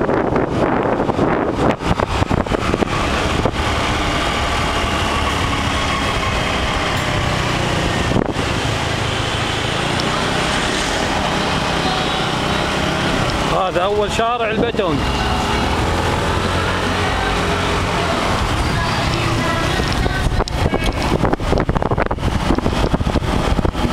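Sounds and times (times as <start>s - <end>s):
road noise: 0.0s - 23.9s
scooter engine running: 0.0s - 23.9s
wind buffeting microphone: 0.0s - 23.9s.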